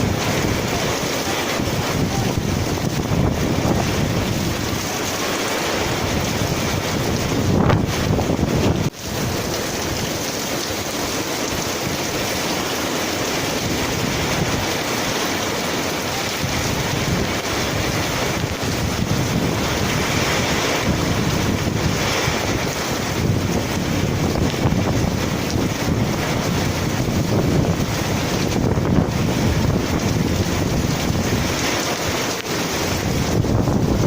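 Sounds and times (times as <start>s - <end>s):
heavy rain: 0.0s - 34.0s
wind gusts buffeting microphone: 0.0s - 34.0s.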